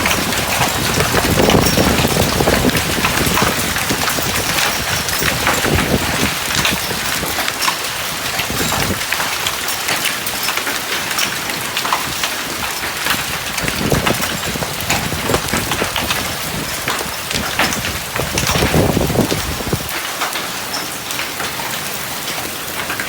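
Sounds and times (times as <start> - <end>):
heavy rain pouring: 0.0 - 23.0
rain strikes on hard surfaces: 0.0 - 23.0.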